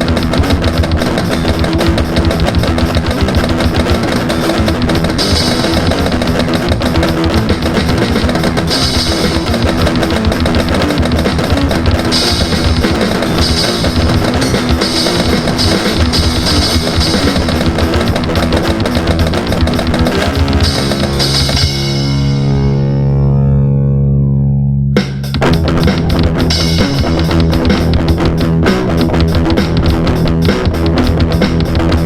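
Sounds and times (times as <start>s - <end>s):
driving drum kit: 0.0s - 22.9s, 25.0s - 32.0s
heavy rock music: 0.0s - 23.9s, 24.9s - 32.0s
distorted electric guitar: 0.0s - 32.0s.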